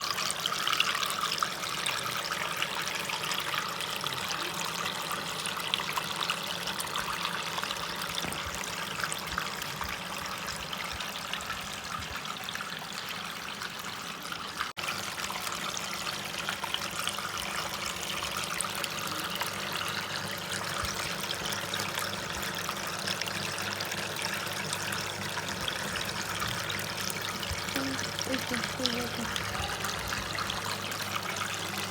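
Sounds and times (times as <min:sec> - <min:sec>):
water trickling in fountain: 0:00.0 - 0:31.9.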